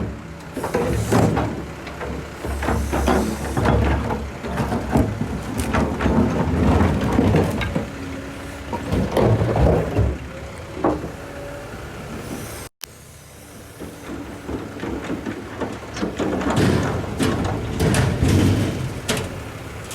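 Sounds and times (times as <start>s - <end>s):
excavator engine rumble: 0.0s - 19.9s.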